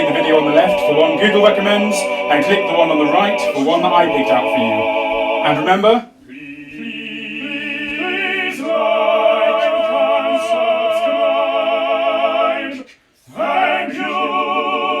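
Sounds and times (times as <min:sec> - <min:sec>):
operatic voice singing: 0:00.0 - 0:15.0.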